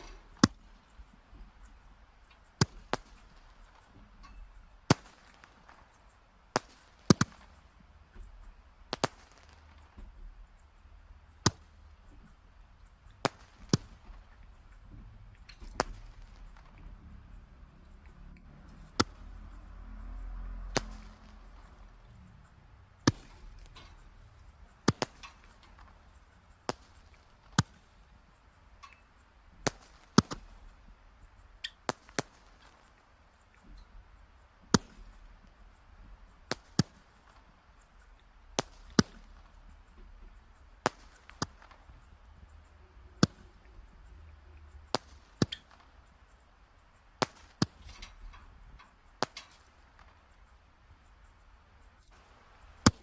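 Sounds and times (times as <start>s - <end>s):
faint low hiss: 0.0s - 53.0s
wood fire crackling: 0.0s - 53.0s.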